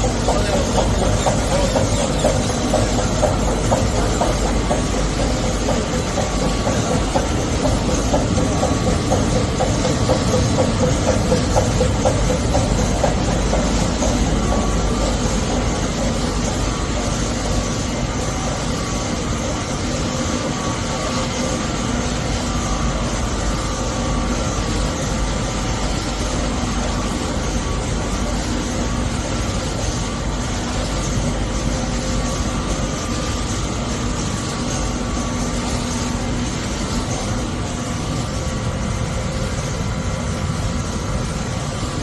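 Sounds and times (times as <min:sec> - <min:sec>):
production machine running: 0:00.0 - 0:42.0.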